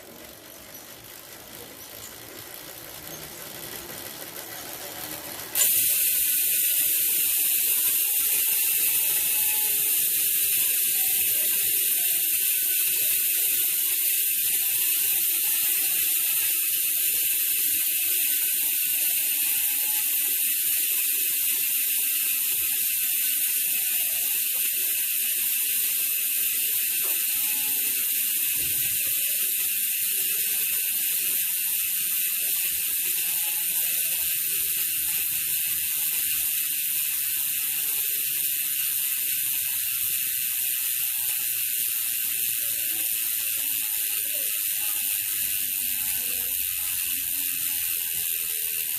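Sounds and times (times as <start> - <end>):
bicycle freewheel ratchet clicking: 0.0 - 48.9.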